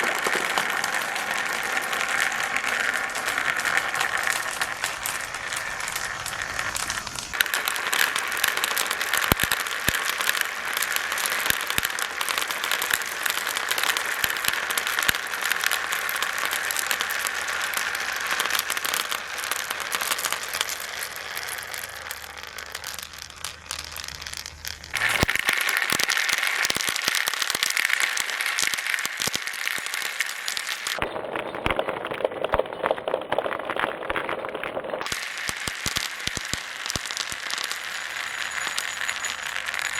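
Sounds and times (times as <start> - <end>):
marbles clattering down marble run: 0.0 - 39.9.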